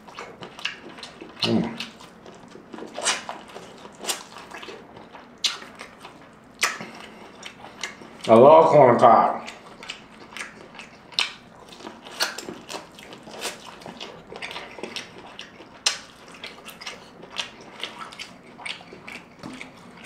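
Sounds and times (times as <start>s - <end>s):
chewing corn on the cob: 0.0s - 20.0s.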